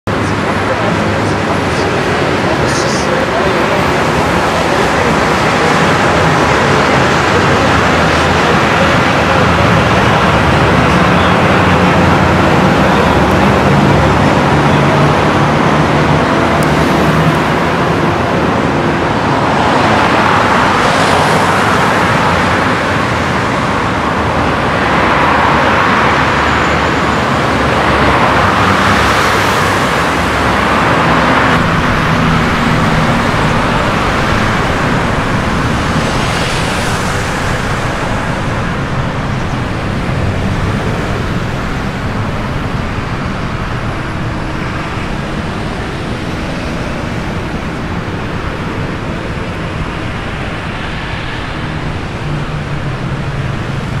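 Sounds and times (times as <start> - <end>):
engines running: 0.0 - 54.0
vehicles passing by: 0.0 - 54.0.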